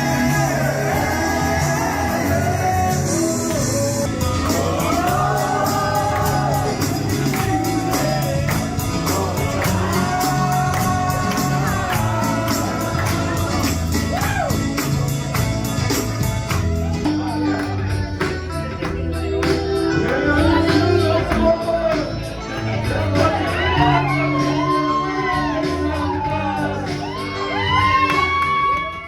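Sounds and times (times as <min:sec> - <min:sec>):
pop song with singing: 0:00.0 - 0:29.0.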